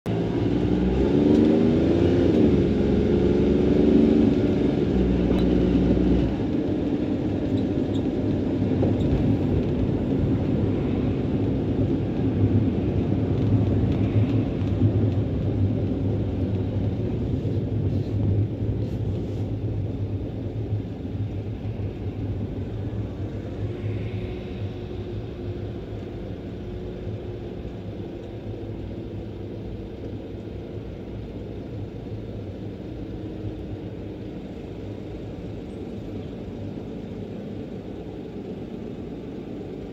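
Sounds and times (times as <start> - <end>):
low rumble of traffic: 0.1 - 39.9.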